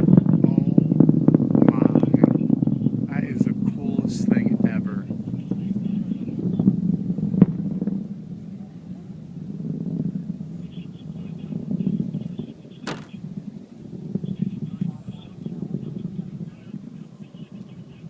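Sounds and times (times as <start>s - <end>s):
rocket engine rumble: 0.0s - 18.0s.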